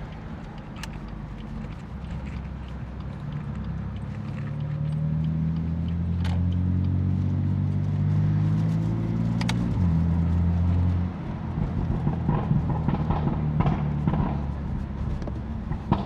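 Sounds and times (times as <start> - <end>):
gear shift crack: 0.0 - 8.0, 8.6 - 10.0, 11.5 - 16.0
car engine revving under throttle: 0.0 - 16.0
exhaust crackles: 0.0 - 16.0.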